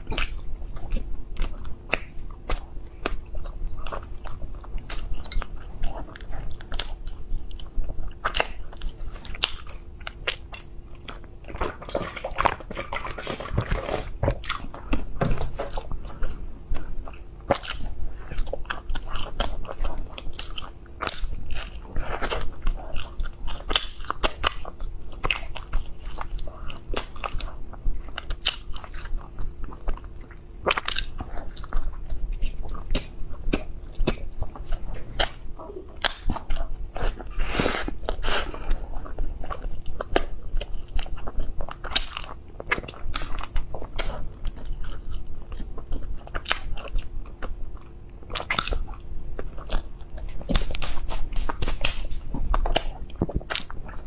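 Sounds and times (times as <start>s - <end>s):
person chewing with wet mouth smacks: 0.0s - 54.0s.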